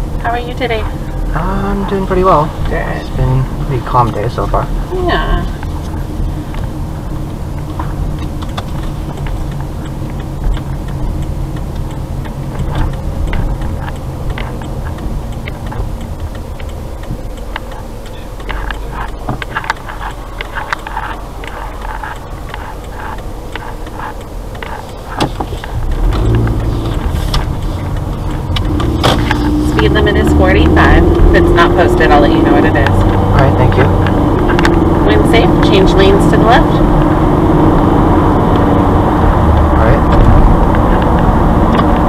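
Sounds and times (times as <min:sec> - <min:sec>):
car engine and road noise: 0:00.0 - 0:42.0
turn signal ticking: 0:00.0 - 0:42.0.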